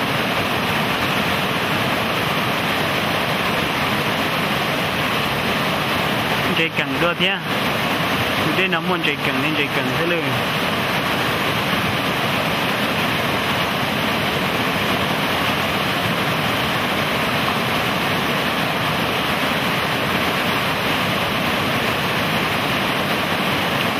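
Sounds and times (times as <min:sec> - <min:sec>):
river water rushing over rocks: 0:00.0 - 0:23.9.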